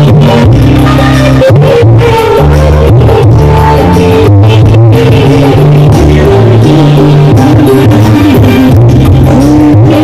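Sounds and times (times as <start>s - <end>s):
drums: 0.0s - 10.0s
heavy bass line: 0.0s - 10.0s
keyboard: 0.0s - 10.0s
woman singing into a microphone: 0.0s - 10.0s.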